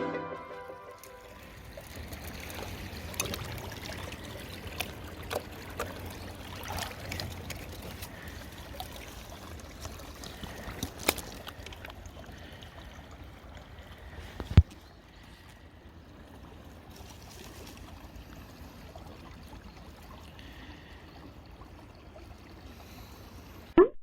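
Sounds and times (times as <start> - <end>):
water trickling and splashing: 0.8 - 23.8.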